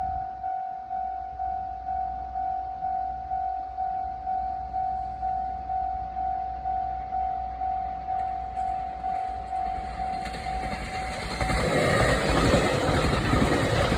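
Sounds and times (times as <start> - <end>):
level-crossing alarm bell: 0.0 - 13.9.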